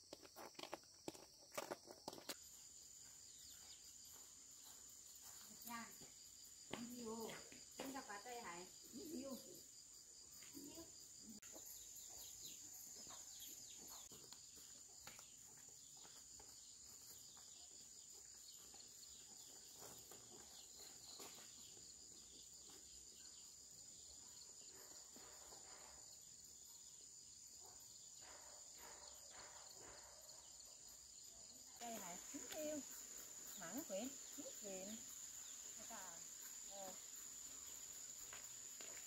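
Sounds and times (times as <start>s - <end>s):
faint chirps and ticks: 0.0s - 39.0s
insects droning: 0.0s - 39.0s.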